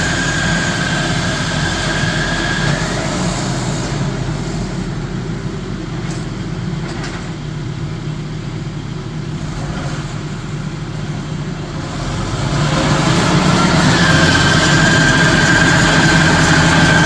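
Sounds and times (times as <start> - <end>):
stump grinder engine running: 0.0 - 7.2, 9.4 - 17.0.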